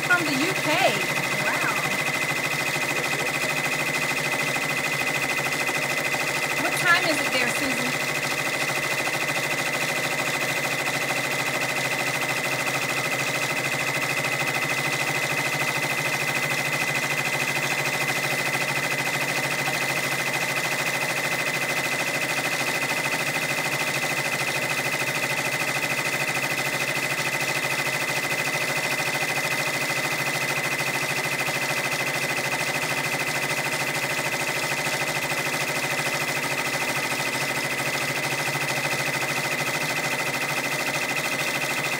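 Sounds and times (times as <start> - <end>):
embroidery machine stitching: 0.0 - 41.9.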